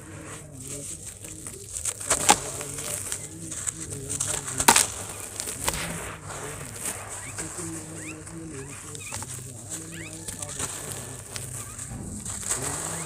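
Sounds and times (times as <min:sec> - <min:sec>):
wet sand crunching by hand: 0:00.0 - 0:13.0.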